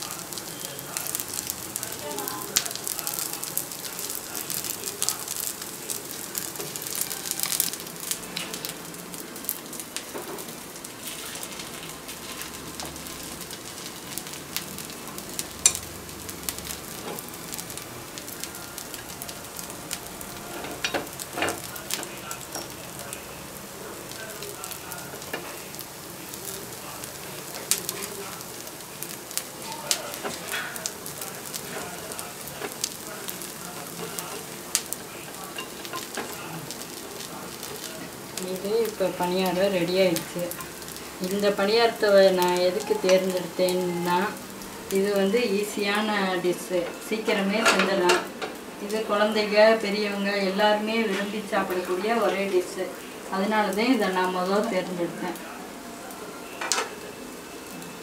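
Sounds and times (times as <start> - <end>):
batter sizzling in oil: 0.0 - 58.0.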